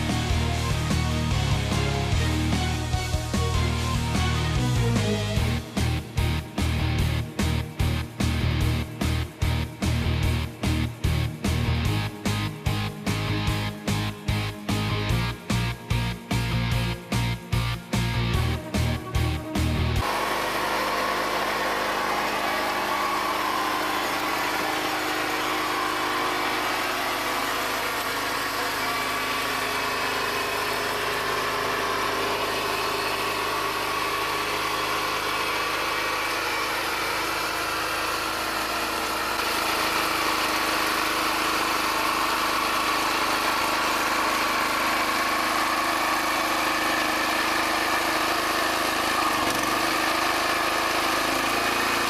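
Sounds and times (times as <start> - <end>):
small engine running: 0.0 - 52.0.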